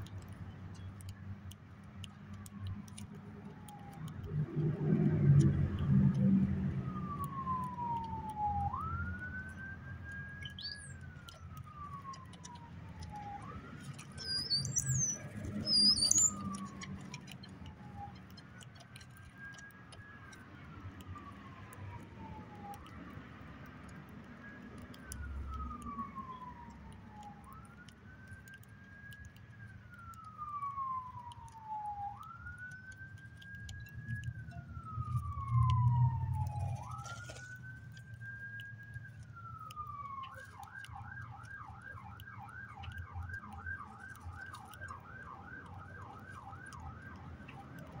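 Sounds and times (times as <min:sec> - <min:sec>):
siren wailing and yelping: 0:02.9 - 0:23.2, 0:24.4 - 0:48.0.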